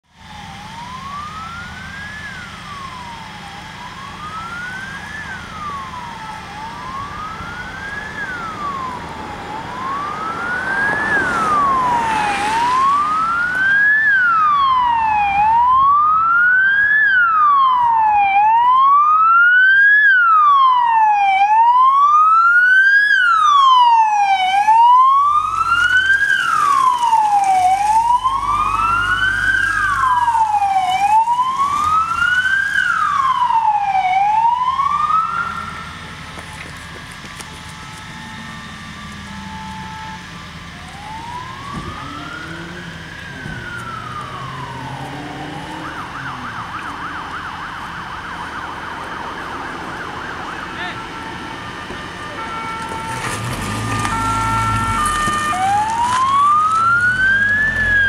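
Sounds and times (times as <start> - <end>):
emergency vehicle siren wailing: 0.0 - 58.0
second siren: 0.2 - 58.0.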